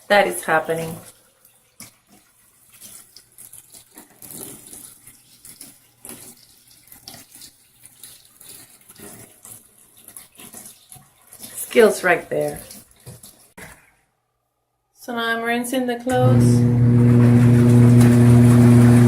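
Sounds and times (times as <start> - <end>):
water pouring into wash tub: 0.0 - 13.9, 16.1 - 19.0.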